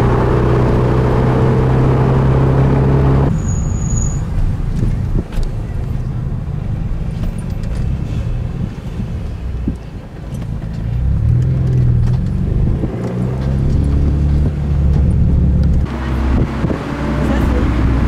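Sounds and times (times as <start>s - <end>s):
car engine accelerating: 0.0s - 18.0s
road noise: 0.0s - 18.0s.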